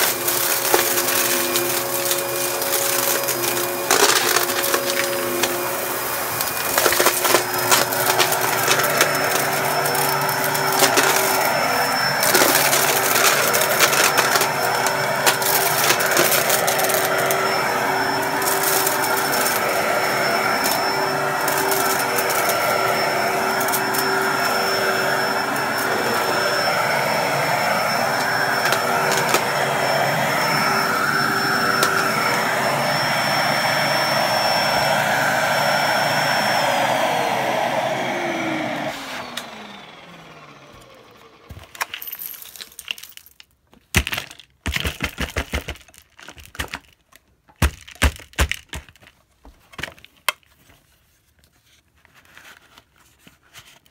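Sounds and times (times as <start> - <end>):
vacuum cleaner running: 0.0 - 43.2.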